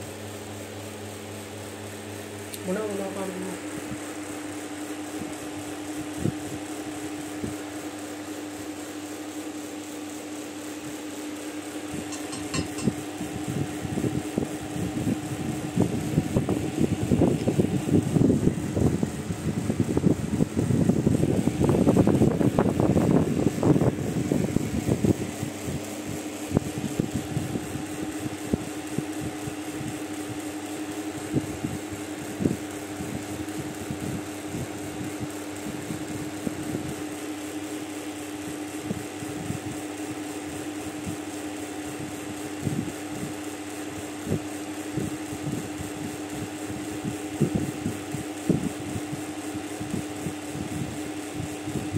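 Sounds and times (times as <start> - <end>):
steady mechanical hum: 0.0 - 51.9.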